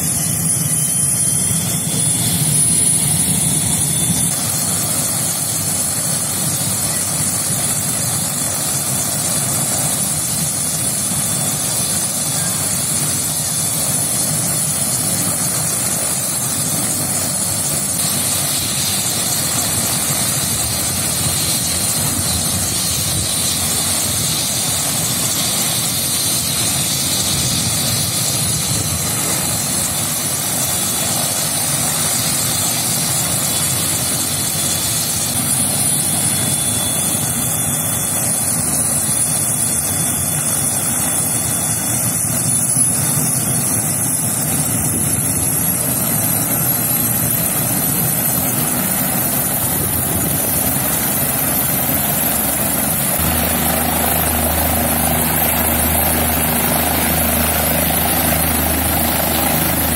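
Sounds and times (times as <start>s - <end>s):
helicopter running: 0.0s - 59.9s
high turbine whine: 0.0s - 59.9s.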